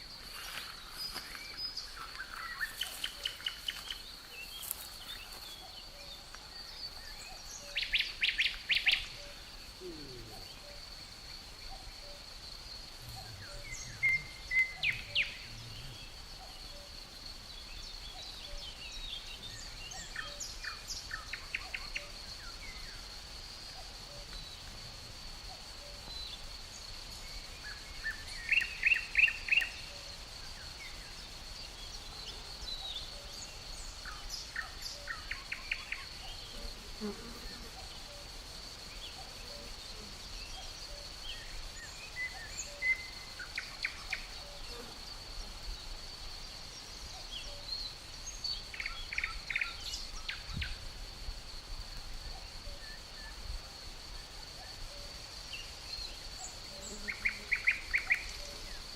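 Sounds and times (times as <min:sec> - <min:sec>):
high-pitched insect trill: 0:00.0 - 0:58.9
wild birds chirping: 0:00.0 - 0:58.9.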